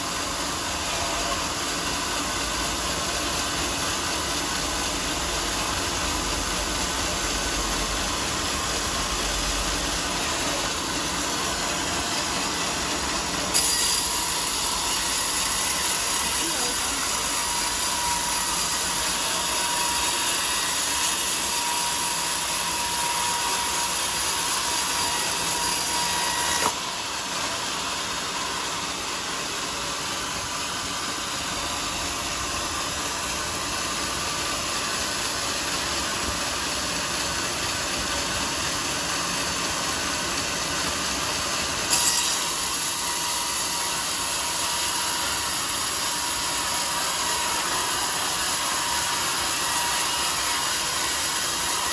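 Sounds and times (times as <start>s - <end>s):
sawmill saw cutting log: 0.0s - 51.9s.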